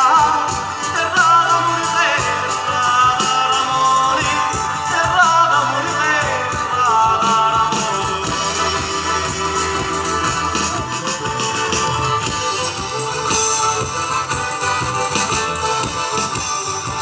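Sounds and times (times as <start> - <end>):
accordion: 0.0 - 17.0
folk band playing: 0.0 - 17.0.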